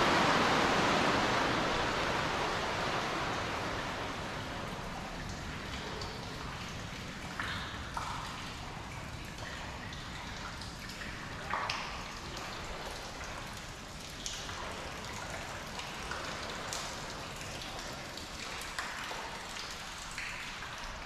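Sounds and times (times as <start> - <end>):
seashore wash with low rumble: 0.0 - 21.0.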